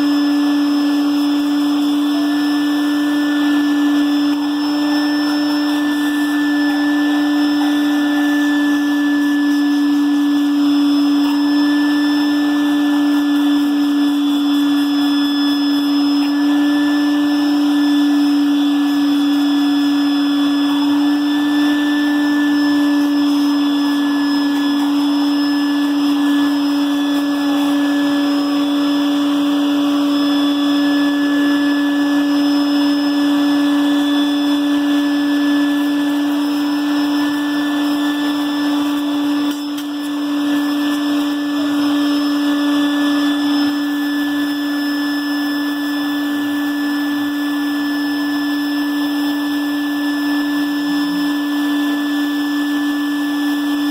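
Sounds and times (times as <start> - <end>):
shop vacuum running: 0.0 - 53.9.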